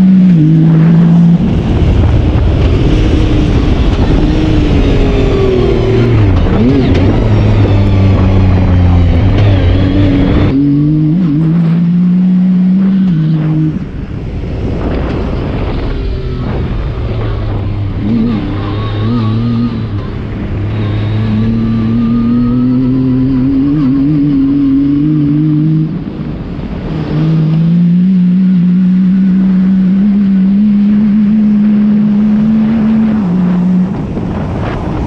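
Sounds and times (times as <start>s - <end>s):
engine running hard: 0.0s - 35.0s.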